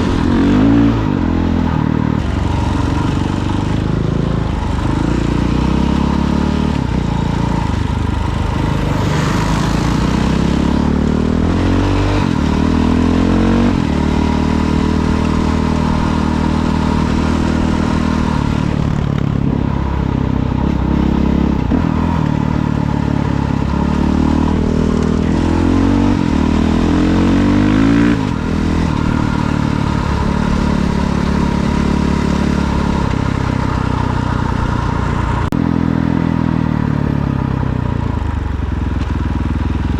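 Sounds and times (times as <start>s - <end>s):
dirt bike engine accelerating: 0.0s - 37.2s.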